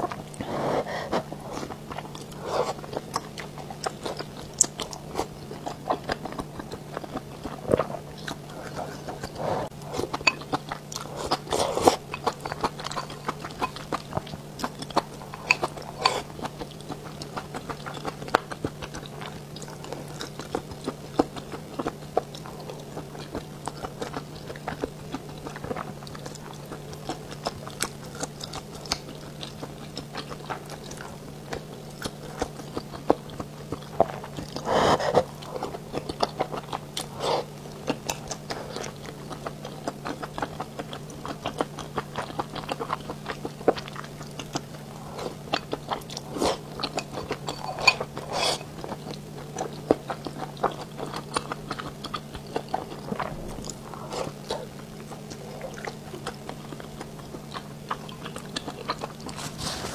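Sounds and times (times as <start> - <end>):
chewing and biting food: 0.0 - 59.9
faint low hum: 0.0 - 59.9.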